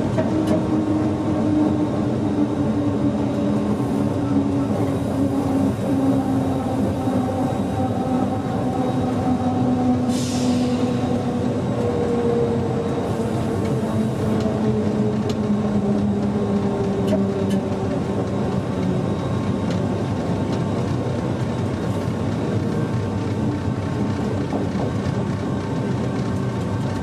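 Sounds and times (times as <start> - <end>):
train running noise: 0.0 - 27.0.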